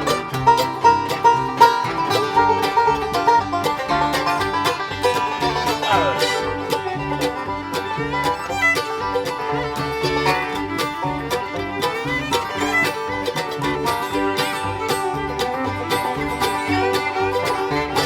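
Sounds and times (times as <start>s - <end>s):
fiddle melody: 0.0s - 18.0s
picked banjo: 0.0s - 18.0s
strummed guitar: 0.0s - 18.0s.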